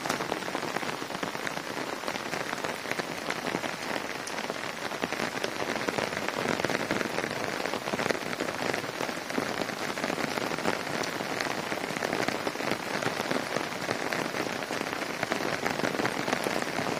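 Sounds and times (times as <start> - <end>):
wet snow falling on leaves: 0.0 - 16.9.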